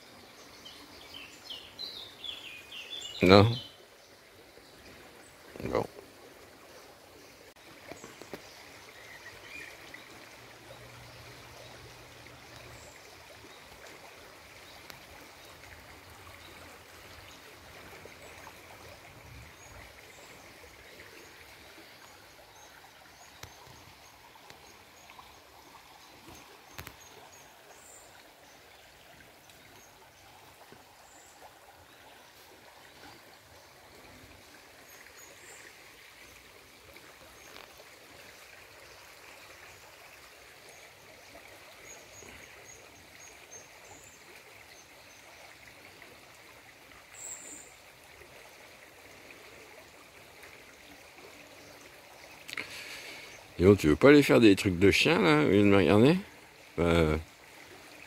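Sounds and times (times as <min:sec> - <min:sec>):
stream trickling over pebbles: 0:00.0 - 0:58.0.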